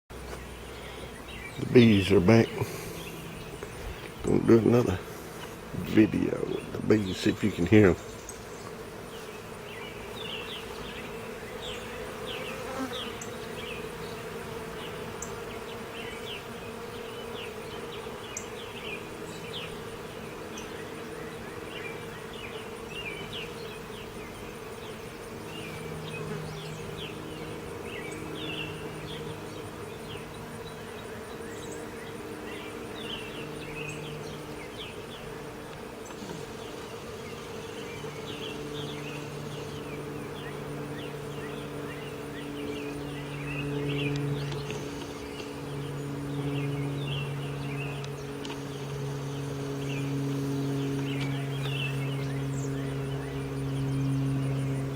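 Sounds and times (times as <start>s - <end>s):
bees buzzing: 0.1s - 54.9s
songbirds chirping: 0.1s - 54.9s.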